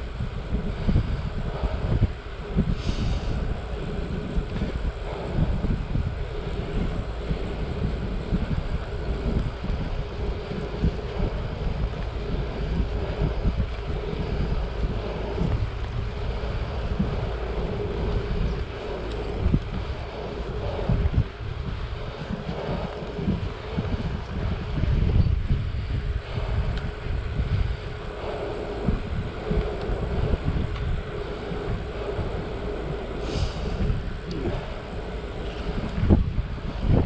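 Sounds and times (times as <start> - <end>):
faint steady hum: 0.0 - 37.0
wind buffeting microphone: 0.0 - 37.0.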